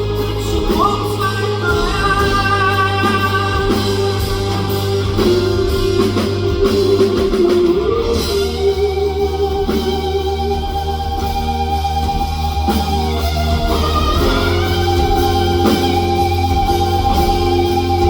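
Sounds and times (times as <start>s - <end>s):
rock band playing instrumental: 0.0s - 18.0s.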